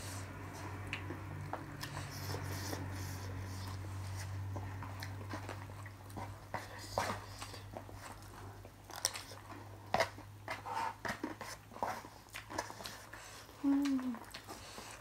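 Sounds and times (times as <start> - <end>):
chewing crunchy snack: 0.6 - 15.0.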